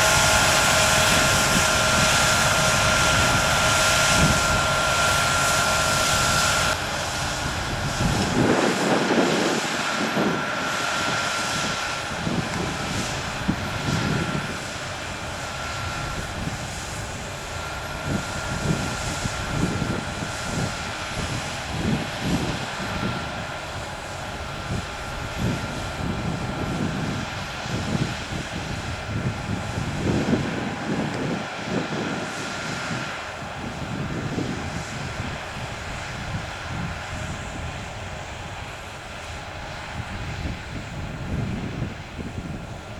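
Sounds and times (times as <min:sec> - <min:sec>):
high whine: 0:00.0 - 0:42.6
combine harvester drone: 0:00.0 - 0:42.9.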